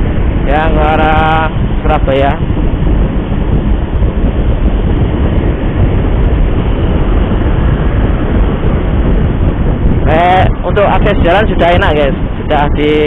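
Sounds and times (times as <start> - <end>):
road traffic noise: 0.0 - 13.0
wind buffeting microphone: 0.0 - 13.0.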